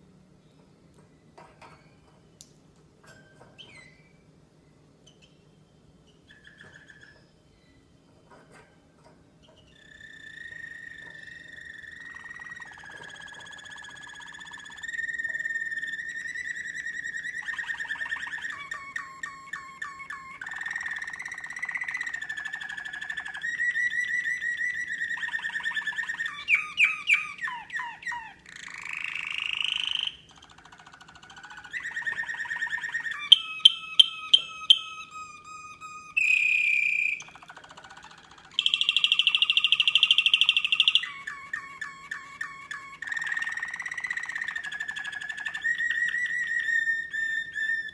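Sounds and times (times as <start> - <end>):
canary singing: 0.0 - 47.9.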